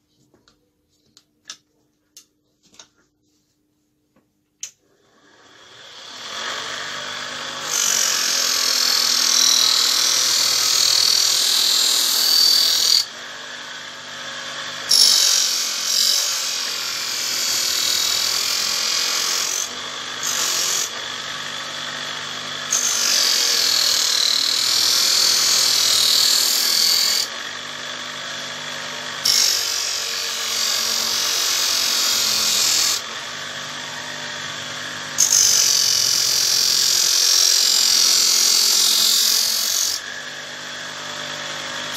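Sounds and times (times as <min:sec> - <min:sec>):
small electric motor running: 0:05.3 - 0:41.9.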